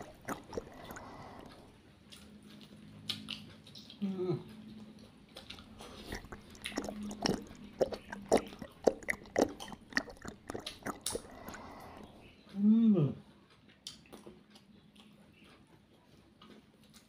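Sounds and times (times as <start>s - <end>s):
open-mouthed chewing: 0.0s - 17.0s.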